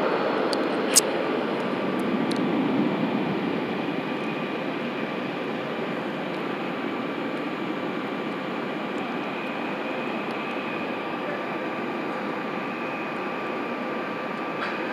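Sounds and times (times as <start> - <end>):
jet engines running: 0.0 - 14.9.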